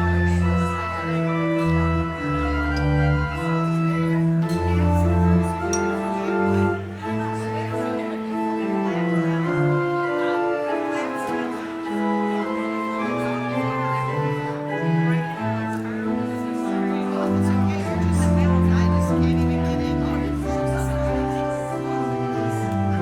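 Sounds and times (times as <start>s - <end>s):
organ playing chords: 0.0s - 23.0s.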